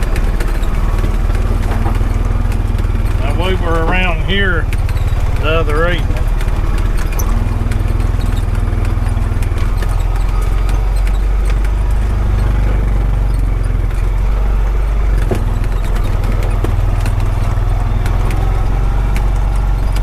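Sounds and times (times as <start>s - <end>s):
light rattles and clicks: 0.0s - 20.0s
vehicle engine running: 0.0s - 20.0s.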